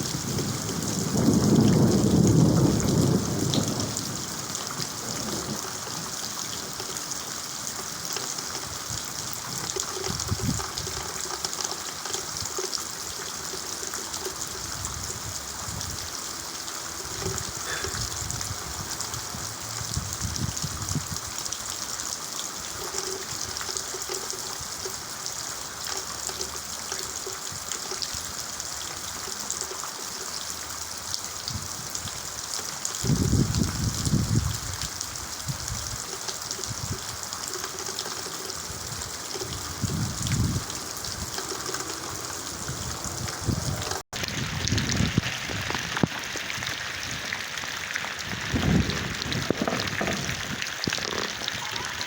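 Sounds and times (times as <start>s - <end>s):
steady rain: 0.0s - 52.0s
water running and trickling: 0.0s - 52.0s.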